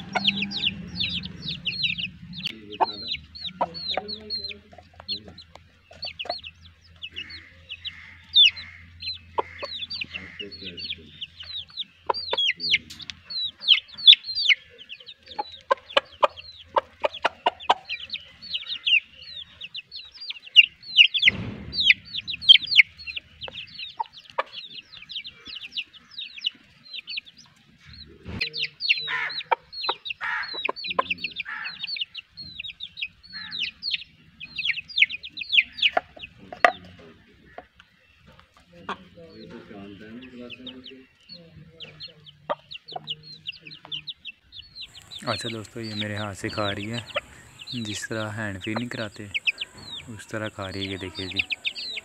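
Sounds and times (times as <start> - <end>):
chicks peeping: 0.0 - 52.0
hen clucking: 0.0 - 52.0.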